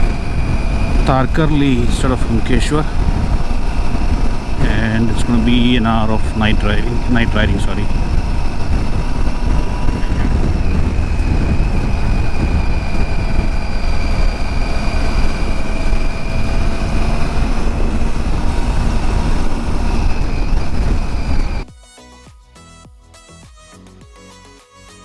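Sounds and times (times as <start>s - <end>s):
motorcycle engine cruising: 0.0s - 21.7s
wind rush on microphone: 0.0s - 21.7s.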